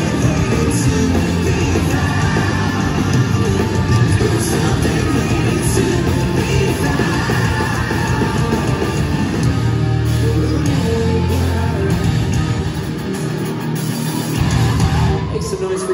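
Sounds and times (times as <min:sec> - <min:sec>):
person singing: 0:00.0 - 0:13.8
bass: 0:00.0 - 0:15.9
distorted electric guitars: 0:00.0 - 0:15.9
drums: 0:00.0 - 0:15.9.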